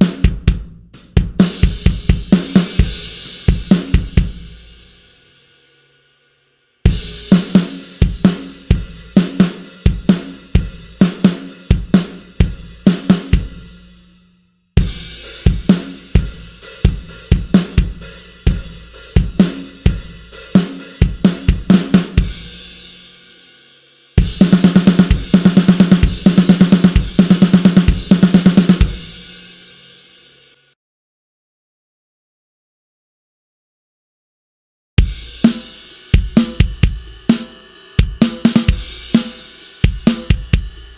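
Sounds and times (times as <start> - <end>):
drum kit grooves: 0.0 - 5.2, 6.9 - 14.2, 14.8 - 30.4, 35.0 - 40.9.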